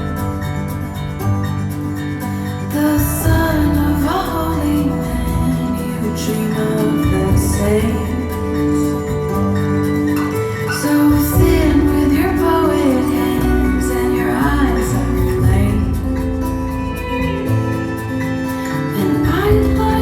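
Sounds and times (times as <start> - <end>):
pop song through speakers: 0.0 - 20.0.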